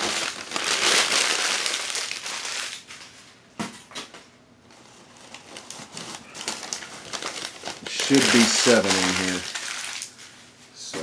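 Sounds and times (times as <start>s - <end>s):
newspaper crinkling and rustling: 0.0s - 3.2s, 4.7s - 10.5s.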